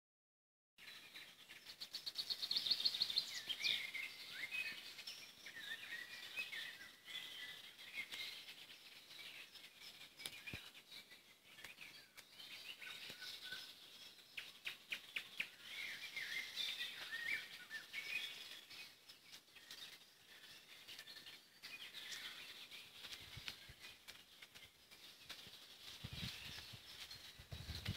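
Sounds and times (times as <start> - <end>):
songbirds singing: 0.8 - 27.9.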